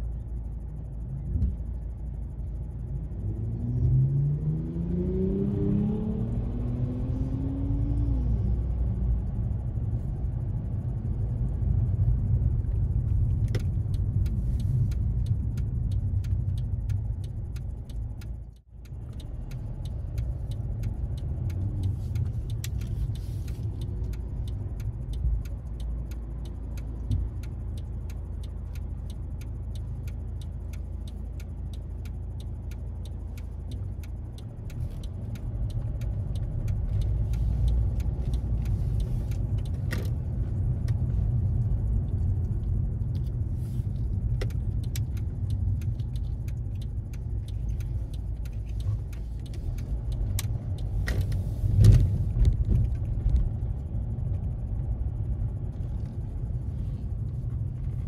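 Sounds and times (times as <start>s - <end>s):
car engine and tyre rumble: 0.0s - 58.0s
faint regular ticks: 9.1s - 58.0s.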